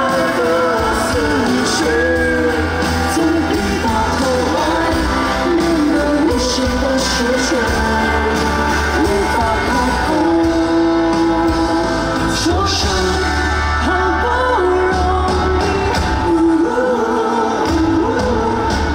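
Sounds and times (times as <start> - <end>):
live band playing pop song: 0.0 - 18.9.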